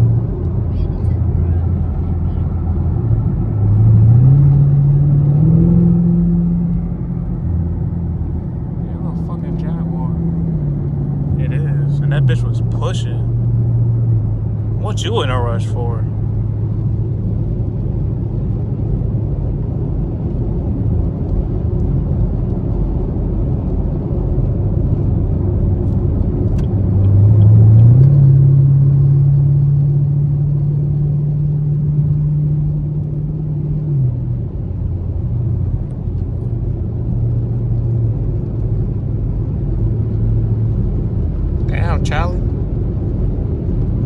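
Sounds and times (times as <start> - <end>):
car engine revving: 0.0 - 17.6, 25.8 - 44.0.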